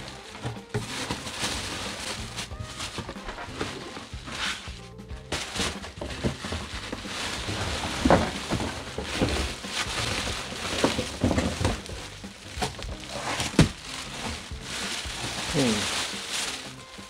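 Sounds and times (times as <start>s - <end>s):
cardboard box handled: 0.0s - 17.0s
plastic packaging crinkling: 0.0s - 17.0s.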